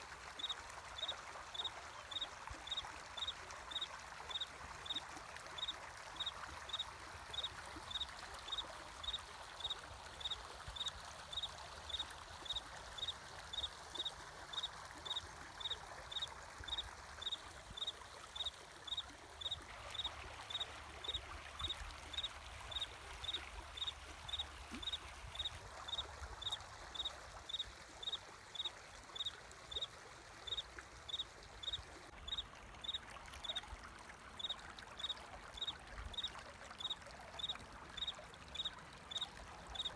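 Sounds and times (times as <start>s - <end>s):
flowing water rushing: 0.0s - 39.9s
cricket chirping: 0.4s - 5.0s, 5.6s - 29.9s, 30.5s - 33.6s, 34.4s - 39.9s.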